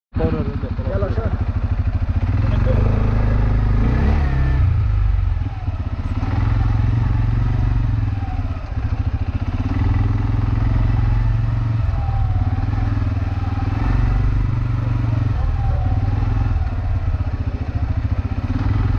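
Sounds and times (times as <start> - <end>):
atv engine low rumble: 0.1 - 18.9.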